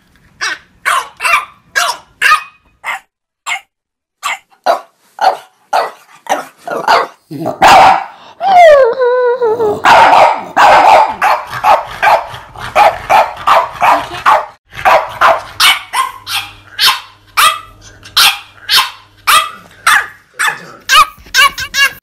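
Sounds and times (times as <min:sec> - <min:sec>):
dog barking: 0:00.4 - 0:08.2, 0:09.8 - 0:21.5.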